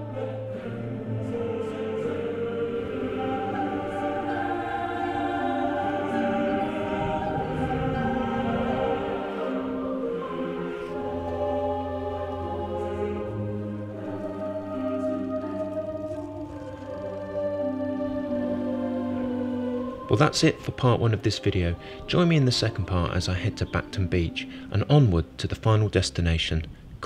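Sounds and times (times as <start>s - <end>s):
choir singing held chords: 0.0s - 25.4s
low sustained note: 0.0s - 25.4s.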